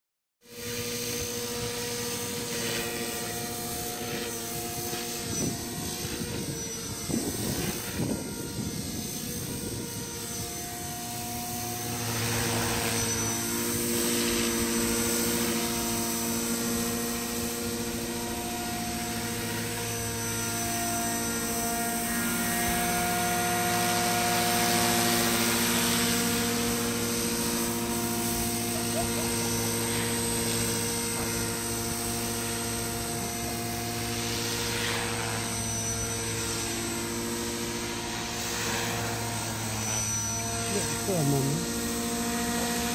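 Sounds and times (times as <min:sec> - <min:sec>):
model helicopter rotor whining: 0:00.4 - 0:42.9.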